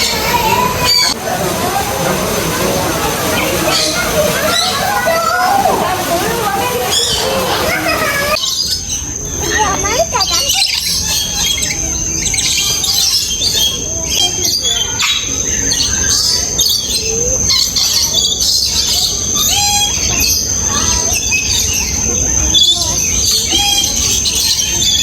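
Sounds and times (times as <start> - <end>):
many birds chirping: 0.0 - 25.0.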